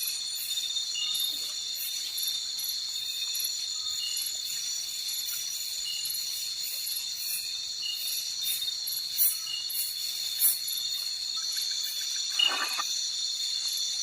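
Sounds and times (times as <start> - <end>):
crickets and insects trilling: 0.0 - 14.0
short insect chirps: 0.0 - 14.0.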